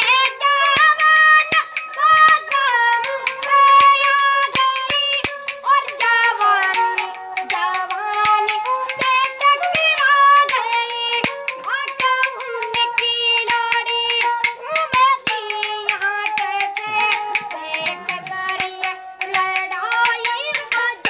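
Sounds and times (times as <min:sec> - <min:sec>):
bowed fiddle: 0:00.0 - 0:21.0
boy singing folk song: 0:00.0 - 0:21.0
sharp rhythmic clicks: 0:00.0 - 0:21.0.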